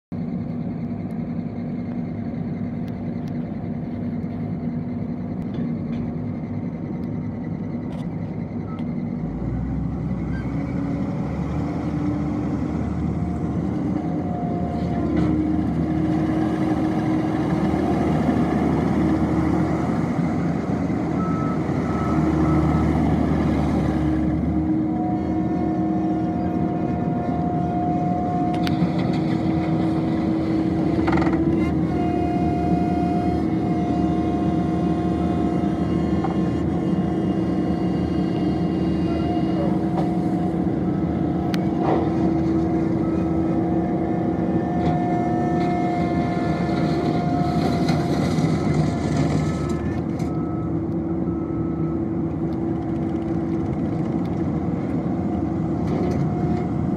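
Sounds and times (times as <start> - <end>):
diesel engine running under load: 0.1 - 56.9.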